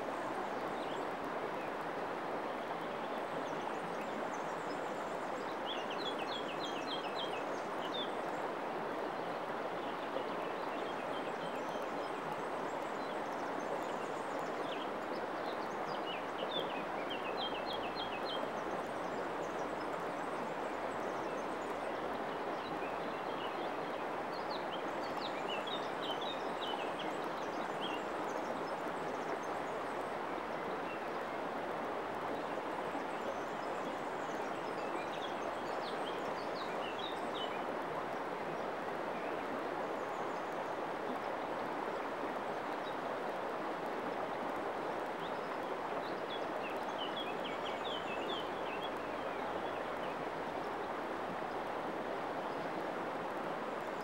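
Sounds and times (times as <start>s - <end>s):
river flowing over pebbles: 0.0s - 54.0s.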